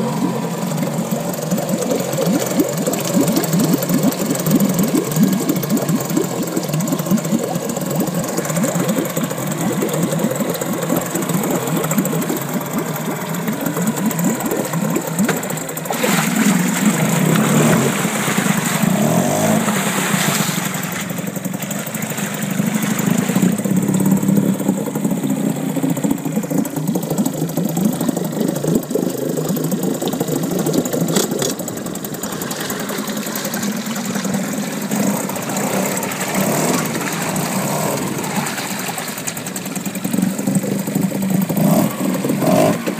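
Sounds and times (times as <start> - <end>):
outboard motor running: 0.0 - 42.9
propeller churning water: 0.0 - 42.9.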